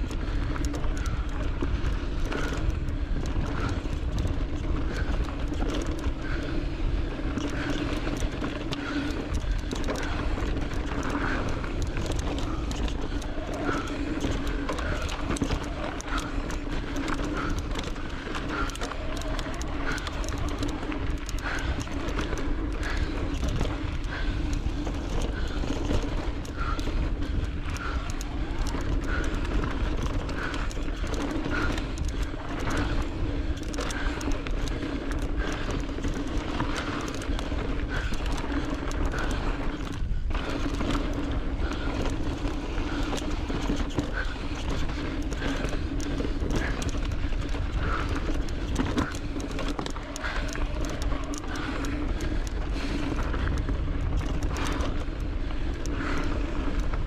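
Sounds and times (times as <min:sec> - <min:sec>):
bike rattling: 0:00.0 - 0:57.0
wind rumble on microphone: 0:00.0 - 0:57.0.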